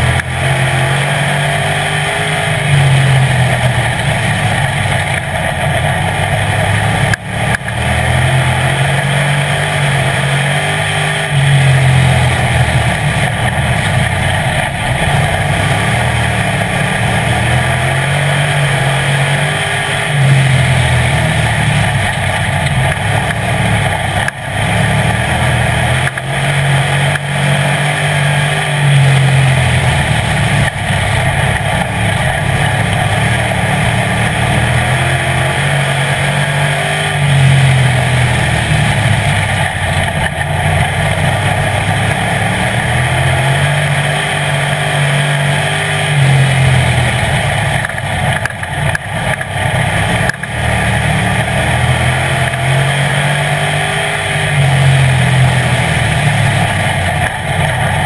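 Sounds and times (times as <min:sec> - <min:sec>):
race car engine revving: 0:00.0 - 0:58.0
wind and track noise: 0:00.0 - 0:58.0.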